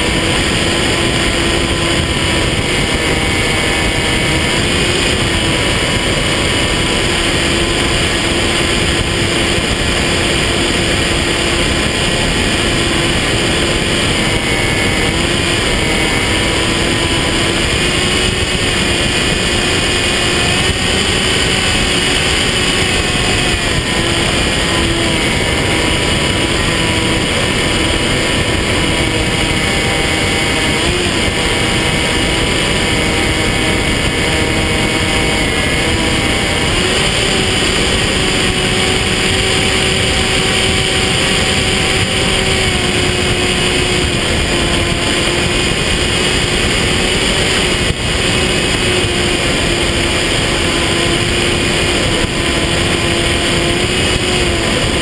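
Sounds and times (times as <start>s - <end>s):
electric motor and propeller whine: 0.0s - 55.0s
rushing wind noise: 0.0s - 55.0s.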